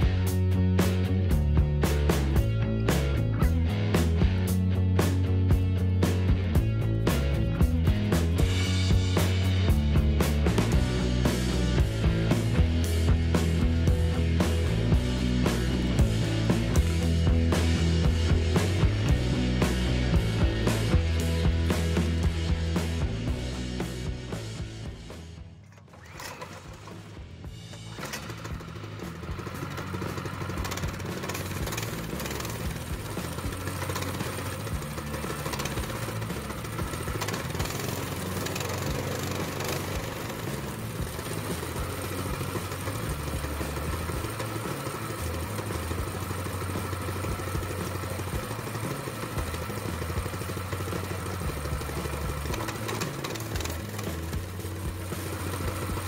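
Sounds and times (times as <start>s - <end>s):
background music with steady beat: 0.0s - 56.0s
go-kart engine running: 0.0s - 56.0s.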